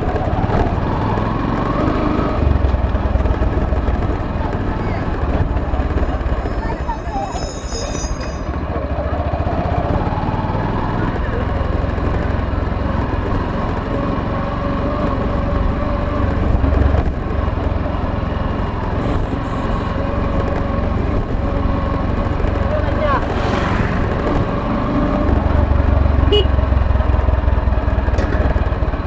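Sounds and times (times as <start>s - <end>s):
motorcycle engine running: 0.0s - 6.9s, 8.7s - 29.0s.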